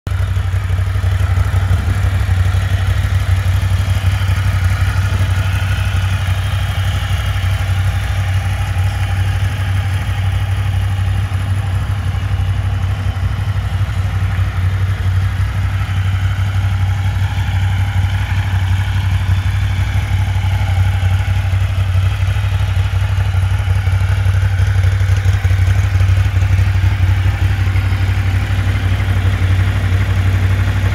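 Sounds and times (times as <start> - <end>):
motorcycle engine idling: 0.1 - 30.9.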